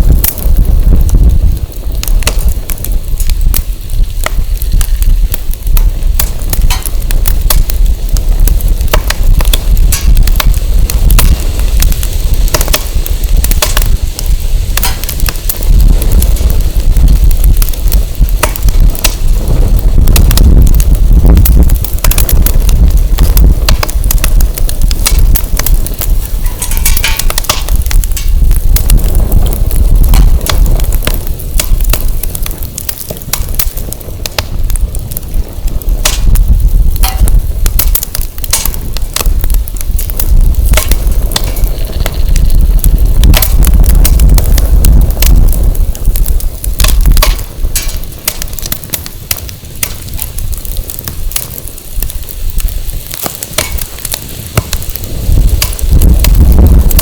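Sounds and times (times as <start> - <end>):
firewood crackling and popping: 0.0 - 57.0
wind rumble on microphone: 0.0 - 57.0.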